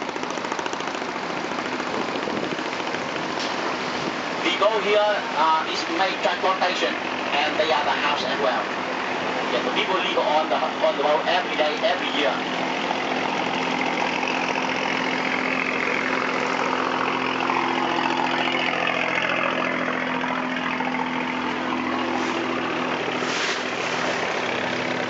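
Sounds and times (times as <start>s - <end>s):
boat engine droning: 0.0s - 25.0s
steady rushing noise: 0.0s - 25.0s.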